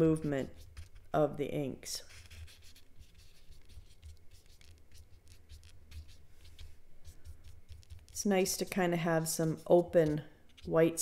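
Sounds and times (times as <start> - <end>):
paintbrush scratchy strokes: 0.0 - 11.0.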